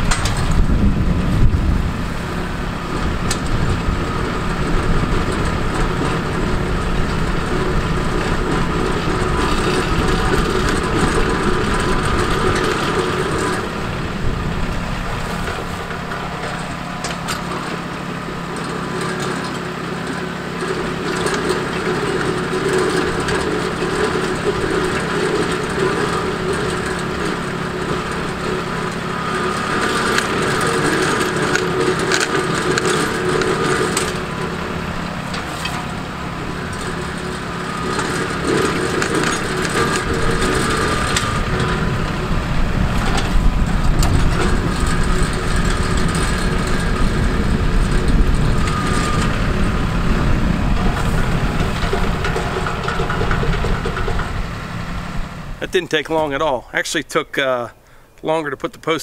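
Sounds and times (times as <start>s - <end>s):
auger drilling into ground: 0.0s - 59.0s
tractor diesel engine running: 0.0s - 59.0s.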